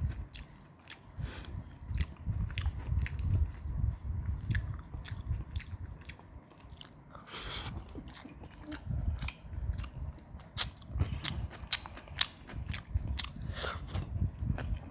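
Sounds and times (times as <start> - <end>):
chewing and crunching food: 0.0 - 14.9.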